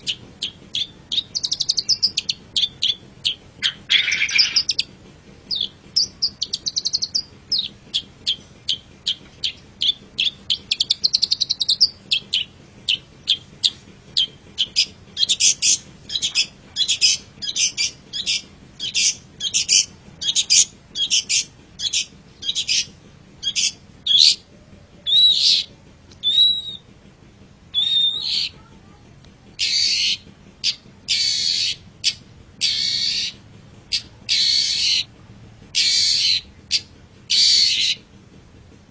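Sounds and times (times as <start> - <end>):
shrike singing chattering phrases: 0.0 - 38.2.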